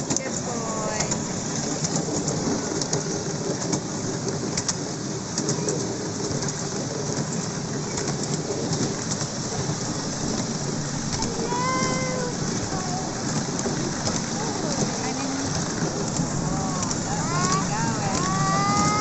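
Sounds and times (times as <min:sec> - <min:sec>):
miniature train wheels clattering: 0:00.0 - 0:19.0.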